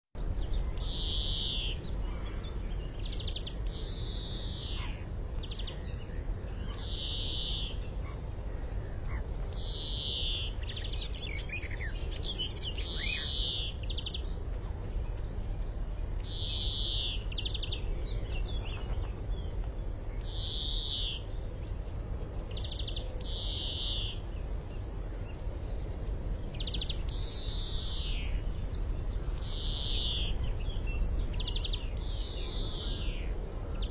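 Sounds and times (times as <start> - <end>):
greenfinch singing: 0.2 - 33.9.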